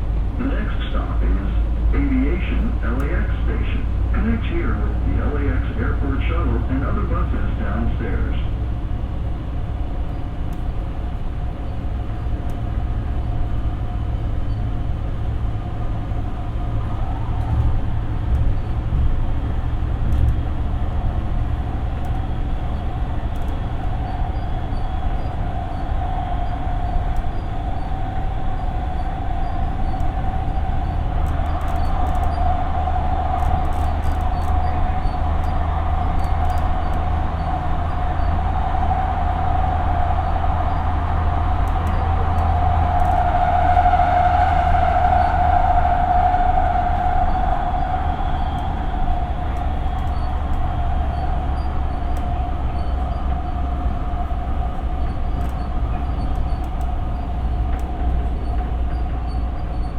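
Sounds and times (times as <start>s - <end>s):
train whine: 0.0s - 59.9s
wheels rumbling on rail: 0.0s - 59.9s.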